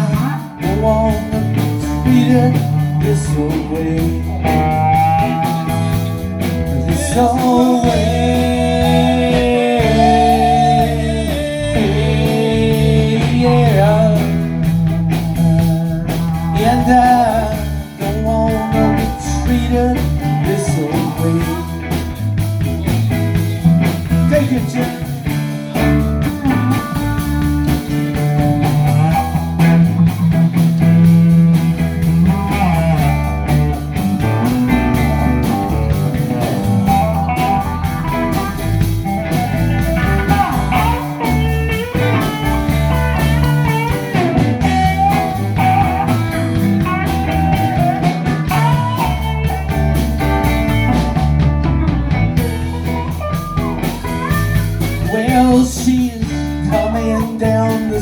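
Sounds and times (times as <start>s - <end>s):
bass: 0.0s - 58.0s
drums: 0.0s - 58.0s
lead guitar solo with bent notes: 0.0s - 58.0s.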